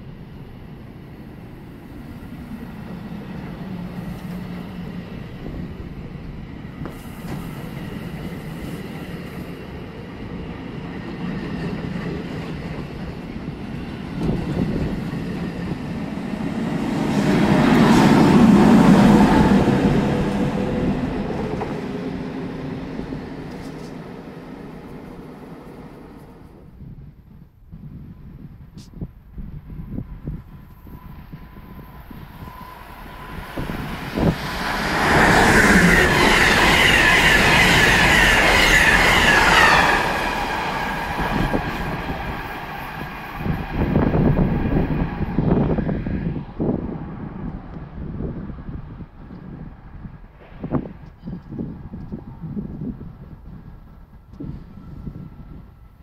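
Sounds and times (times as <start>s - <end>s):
passenger train passing: 0.0s - 56.0s.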